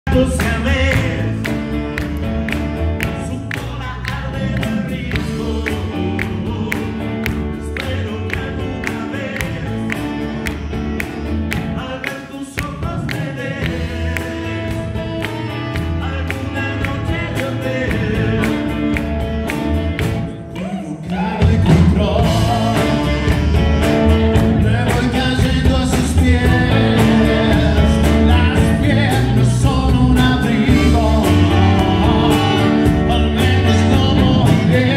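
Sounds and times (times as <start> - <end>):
man singing: 0.0 - 34.9
live rock band playing: 0.1 - 34.9.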